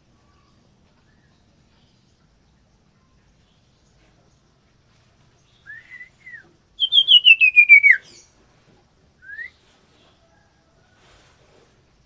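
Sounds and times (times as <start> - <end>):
bird singing: 0.0 - 8.4, 9.2 - 10.5.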